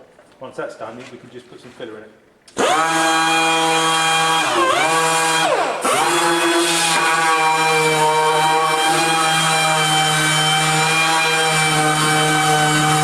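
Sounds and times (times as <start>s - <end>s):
power sander whining on steel: 2.6s - 13.0s.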